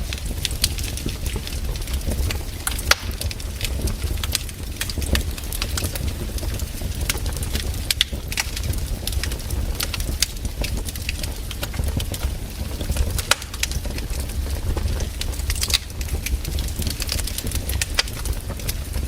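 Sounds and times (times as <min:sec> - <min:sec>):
bonfire crackling and popping: 0:00.0 - 0:19.0
fire low rumble: 0:00.0 - 0:19.0.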